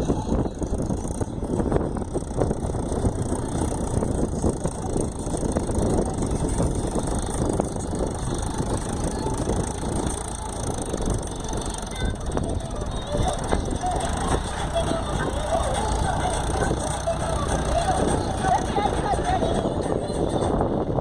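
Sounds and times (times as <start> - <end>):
tractor engine chugging: 0.0 - 20.8.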